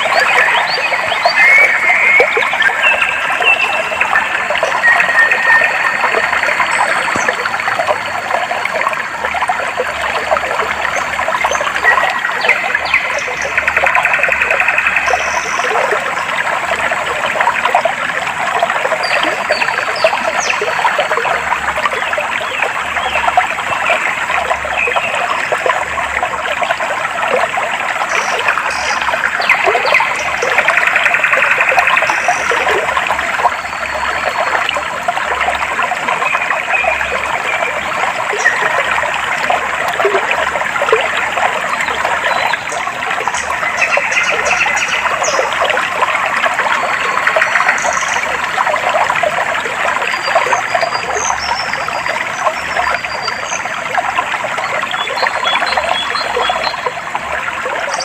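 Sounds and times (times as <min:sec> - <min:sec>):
water babbling over stones: 0:00.0 - 0:58.0.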